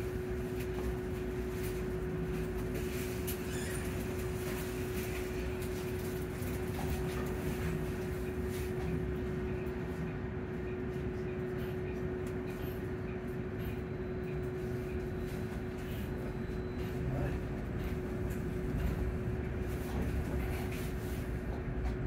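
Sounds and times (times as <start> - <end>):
bus drivetrain rumble and hum: 0.0 - 22.0.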